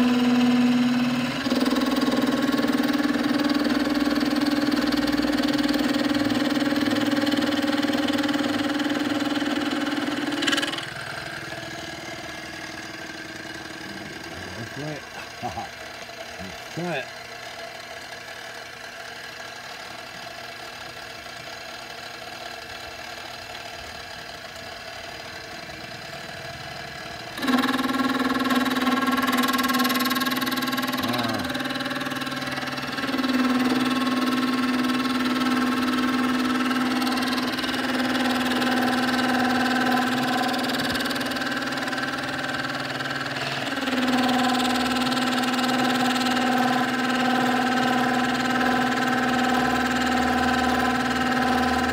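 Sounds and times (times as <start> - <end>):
milling machine whine and cutting: 0.0 - 21.2, 21.8 - 51.9.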